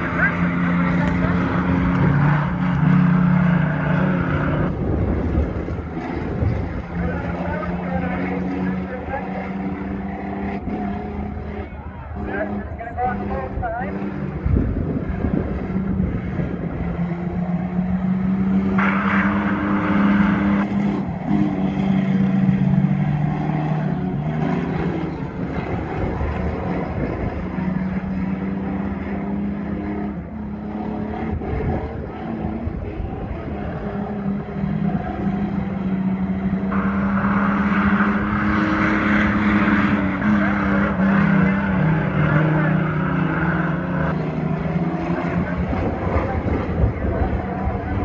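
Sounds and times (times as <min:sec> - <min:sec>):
race truck engines: 0:00.0 - 0:48.0.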